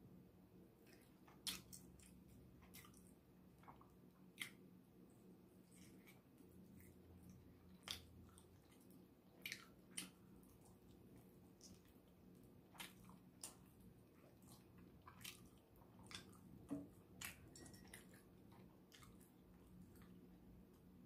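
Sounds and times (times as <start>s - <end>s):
low steady hum: 0.0s - 21.0s
chewing with wet mouth clicks: 0.8s - 20.9s.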